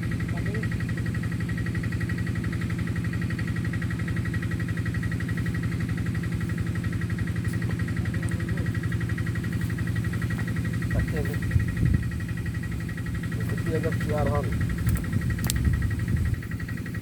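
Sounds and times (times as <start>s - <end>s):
small engine throbbing: 0.0s - 17.0s.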